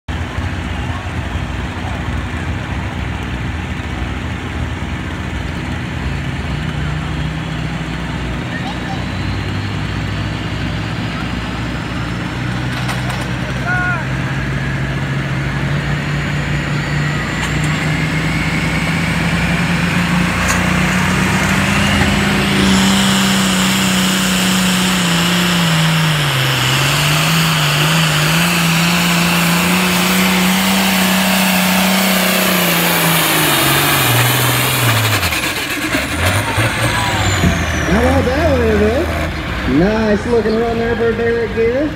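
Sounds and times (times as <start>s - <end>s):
tractor engine at full throttle: 0.1s - 41.9s.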